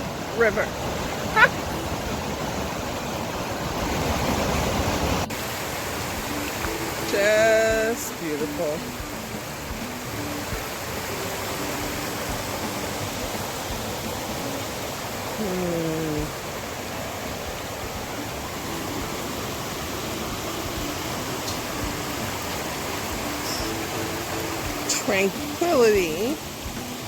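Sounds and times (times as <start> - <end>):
river water over rapids: 0.0 - 27.0.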